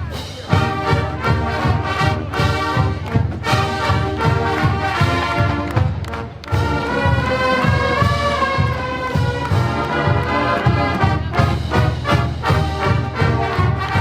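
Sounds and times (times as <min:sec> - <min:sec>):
brass sustaining chords: 0:00.1 - 0:14.0.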